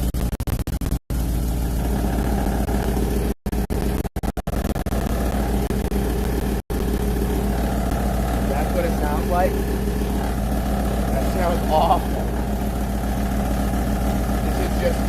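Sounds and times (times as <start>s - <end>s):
car engine idling: 1.1s - 15.0s.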